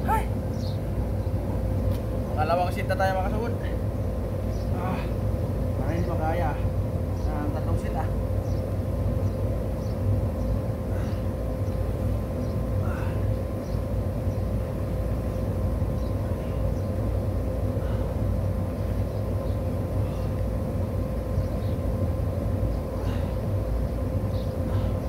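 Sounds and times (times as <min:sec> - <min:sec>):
mid-pitched hum: 0:00.0 - 0:25.0.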